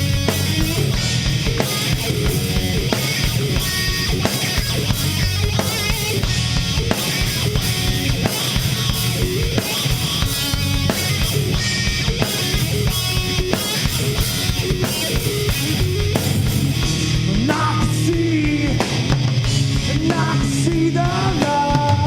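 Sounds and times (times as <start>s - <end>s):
heavy rock band playing: 0.0s - 22.0s.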